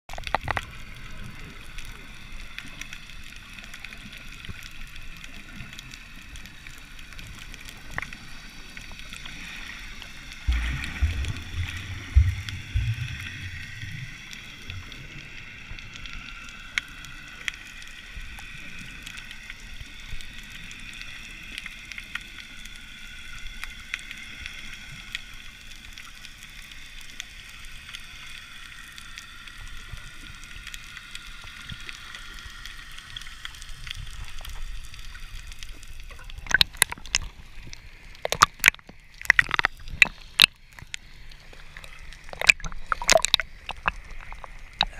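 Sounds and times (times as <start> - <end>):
muffled underwater hiss: 0.1 - 44.9
underwater rumbling and bubbling: 0.1 - 44.9.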